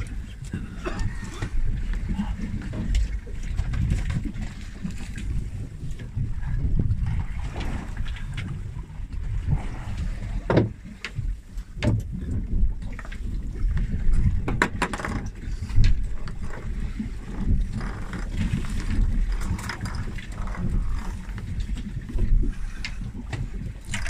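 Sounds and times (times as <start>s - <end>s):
boat noise: 0.0s - 24.0s
wind rumble on microphone: 0.0s - 24.0s.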